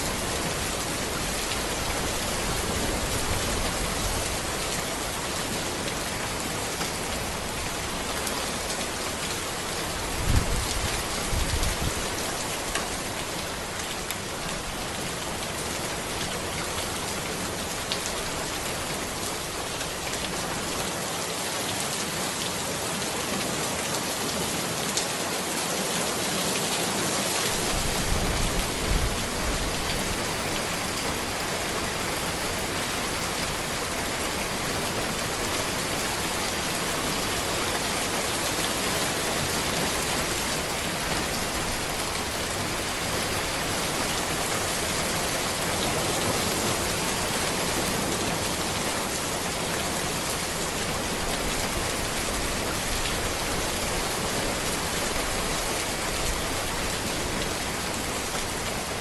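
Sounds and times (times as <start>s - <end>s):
steady rain on a road: 0.0s - 59.0s.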